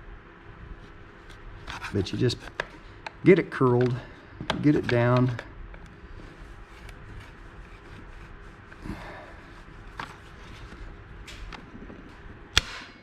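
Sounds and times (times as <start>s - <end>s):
faint handling noise: 0.5s - 12.8s.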